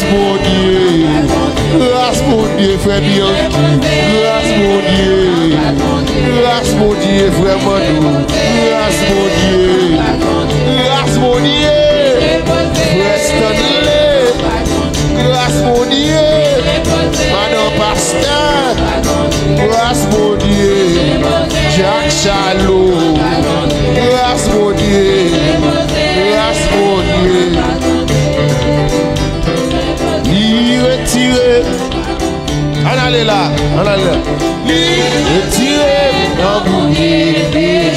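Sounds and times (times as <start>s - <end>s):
gospel praise song playing: 0.0s - 37.9s.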